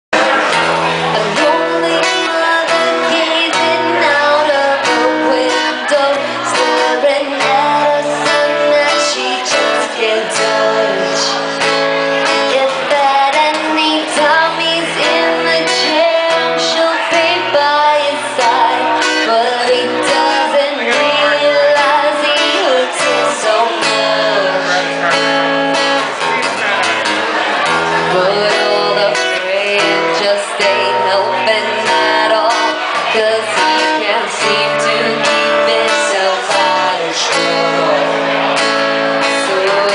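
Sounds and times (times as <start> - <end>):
woman singing: 0.2 - 25.0, 28.0 - 39.9
acoustic guitar strumming: 0.2 - 39.9.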